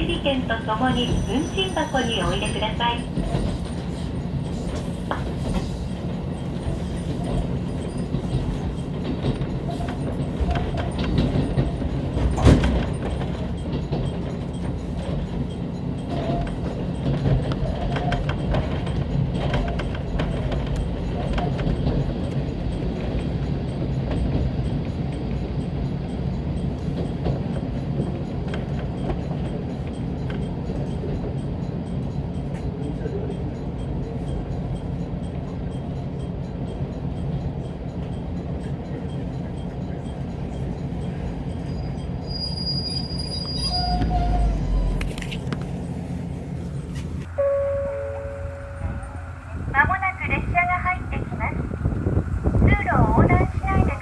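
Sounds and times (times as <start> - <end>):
railcar engine and wheels rumbling: 0.0 - 54.0.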